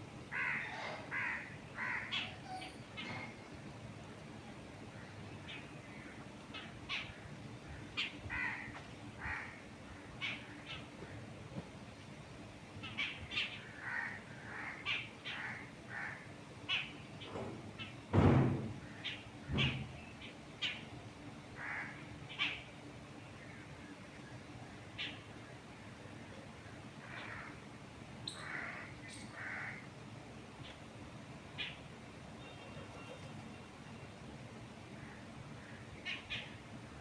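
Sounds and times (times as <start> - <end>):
wild birds calling: 0.0 - 3.8, 4.4 - 11.4, 12.0 - 18.1, 18.7 - 37.0.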